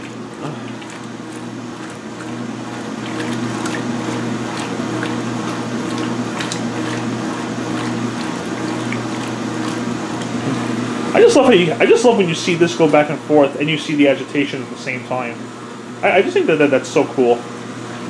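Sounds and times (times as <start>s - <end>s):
washing machine hum: 0.0s - 18.0s
water sloshing in washer: 0.0s - 18.0s.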